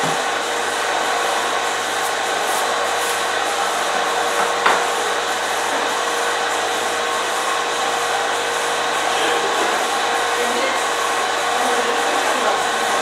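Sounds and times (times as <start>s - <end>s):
honey extractor motor humming: 0.0s - 13.0s.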